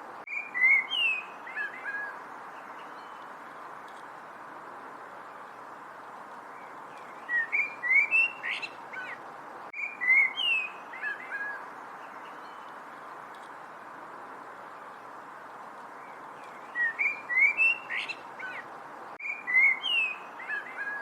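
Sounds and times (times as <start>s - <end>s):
background hiss: 0.0s - 21.0s
songbird chirping: 0.2s - 21.0s.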